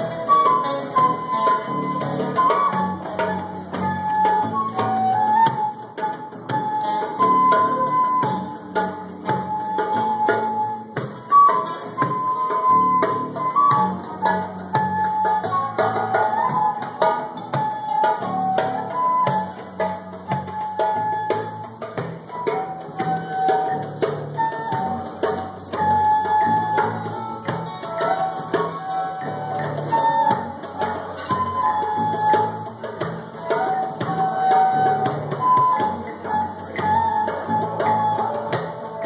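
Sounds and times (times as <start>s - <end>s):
flute melody: 0.0s - 39.0s
hand drum strikes: 0.0s - 39.0s.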